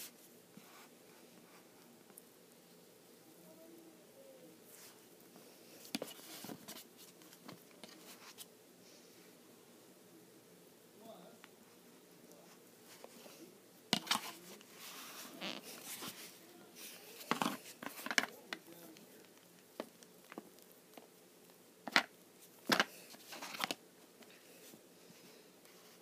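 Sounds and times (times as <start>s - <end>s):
soft rustling: 0.0s - 9.5s, 11.5s - 21.6s, 22.3s - 26.0s.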